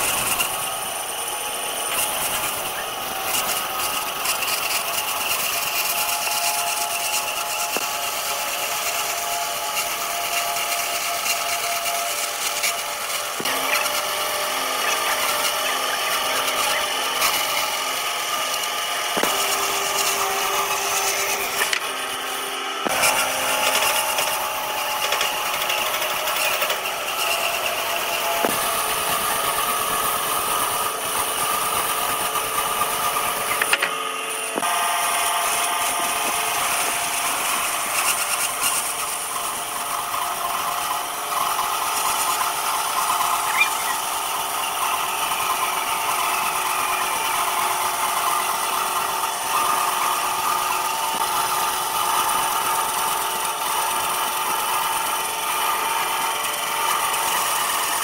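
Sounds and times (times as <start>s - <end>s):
woodworking power tools: 0.0s - 58.0s.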